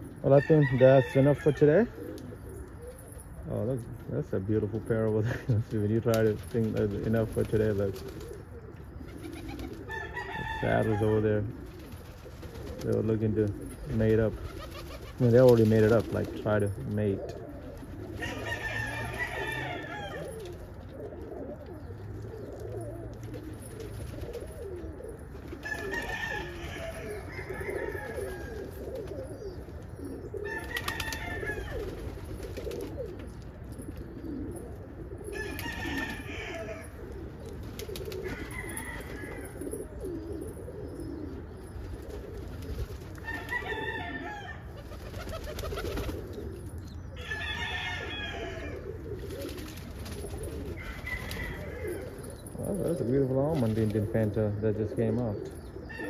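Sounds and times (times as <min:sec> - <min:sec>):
pigeons cooing: 0:00.0 - 0:56.0.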